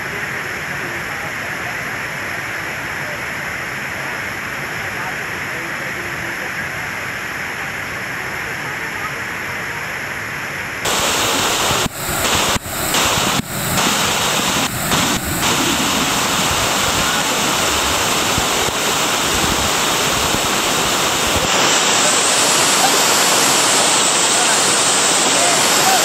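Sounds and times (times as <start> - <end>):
waterfall rushing water: 0.0 - 26.0.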